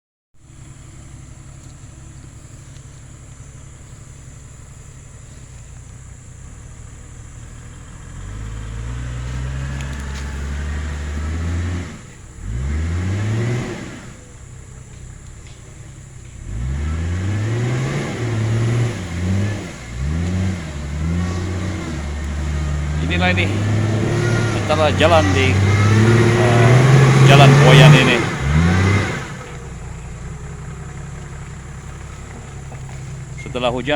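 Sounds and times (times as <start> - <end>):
car engine revving: 0.4 - 33.9.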